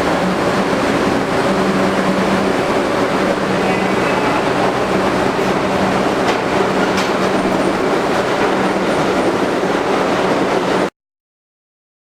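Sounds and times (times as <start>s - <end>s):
subway car wheels on rail: 0.0s - 10.9s.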